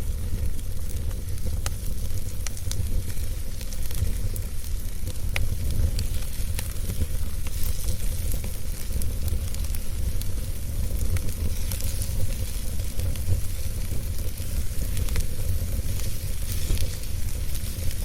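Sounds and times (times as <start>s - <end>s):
wood crackling and popping: 0.0s - 18.0s
wood fire burning: 0.0s - 18.0s.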